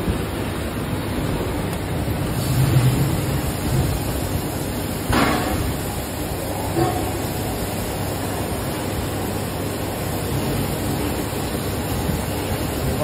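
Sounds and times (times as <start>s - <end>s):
machine mechanical drone: 0.0s - 13.0s.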